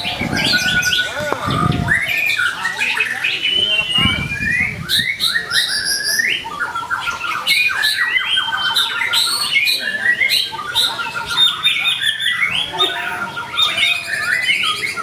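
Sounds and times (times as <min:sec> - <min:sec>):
bird singing varied chirps and trills: 0:00.0 - 0:15.0.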